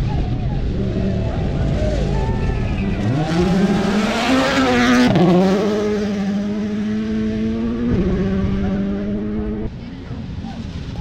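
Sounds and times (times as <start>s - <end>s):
rally car engine accelerating: 0.2s - 9.7s.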